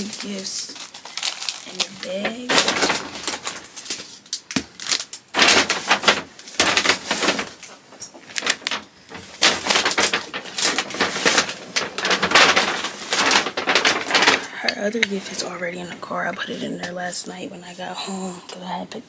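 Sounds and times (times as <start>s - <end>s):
gift bag rustling: 0.0s - 17.2s.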